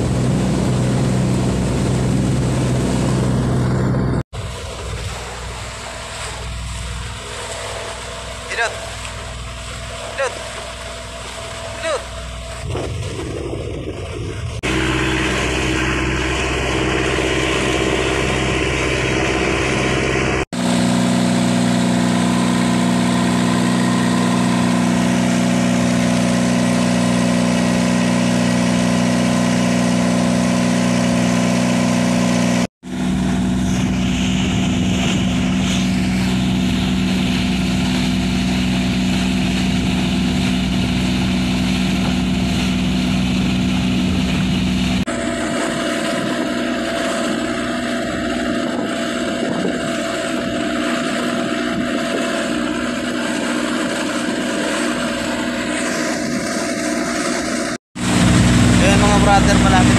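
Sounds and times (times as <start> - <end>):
diesel boat engine drone: 0.0 - 59.9
rushing water: 0.0 - 59.9
wind: 0.0 - 59.9.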